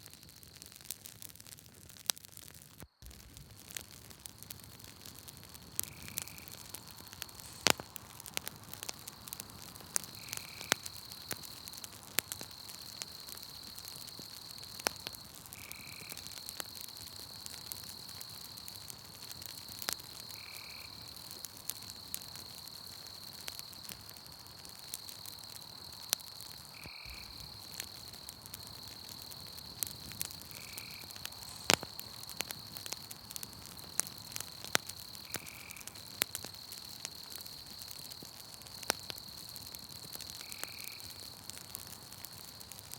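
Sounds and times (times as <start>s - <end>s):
campfire crackling and popping: 0.0s - 42.9s
night insects trilling: 2.7s - 42.9s.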